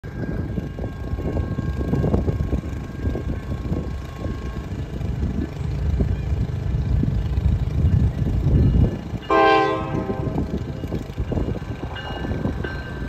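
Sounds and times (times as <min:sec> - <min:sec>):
wind buffeting microphone: 0:00.0 - 0:13.0
faint steady tones: 0:00.1 - 0:13.0.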